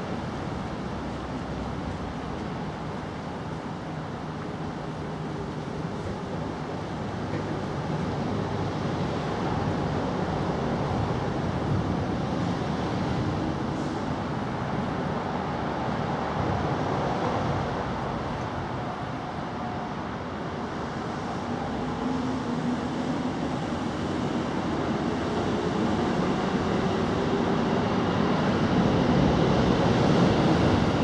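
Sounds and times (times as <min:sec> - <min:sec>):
distant road traffic: 0:00.0 - 0:31.0.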